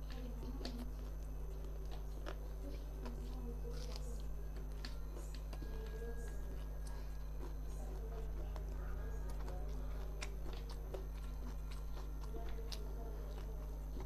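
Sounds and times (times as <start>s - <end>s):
chewing: 0.0s - 14.0s
steady low hum: 0.0s - 14.0s.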